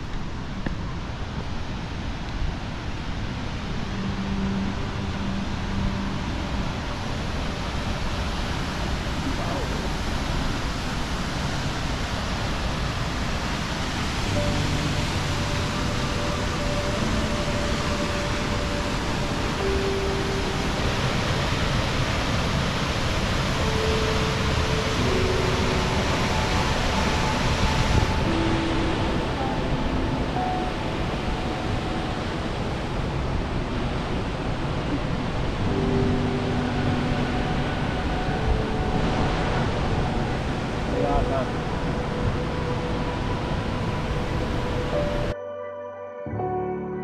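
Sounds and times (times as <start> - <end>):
steady rushing noise: 0.0 - 45.4
soft background music: 0.0 - 47.0.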